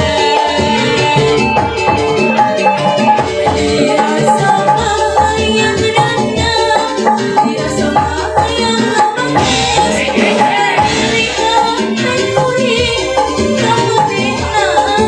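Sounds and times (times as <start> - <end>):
live band music: 0.0 - 15.0
steady drum beat: 0.0 - 15.0
woman singing into a microphone: 0.0 - 15.0.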